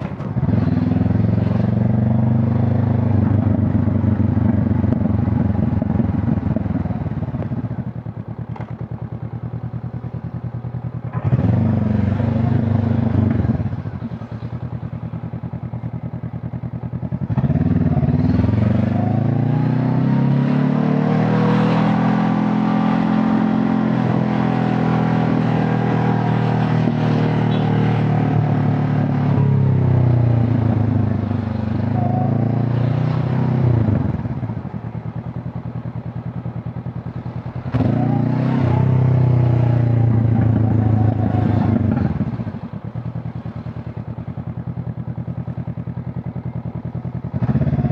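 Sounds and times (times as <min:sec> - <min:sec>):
motorcycle engine and exhaust: 0:00.0 - 0:47.9.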